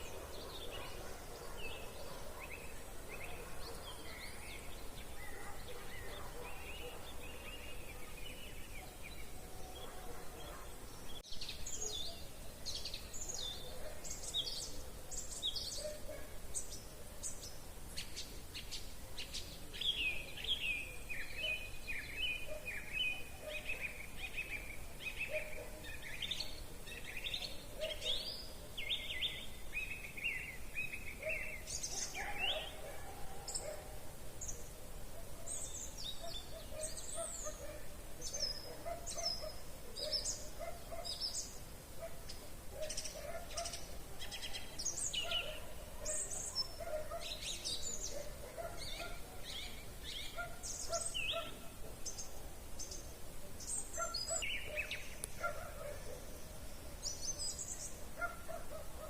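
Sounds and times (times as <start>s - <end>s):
soft background hiss: 0.0s - 59.0s
songbirds singing: 0.0s - 59.0s.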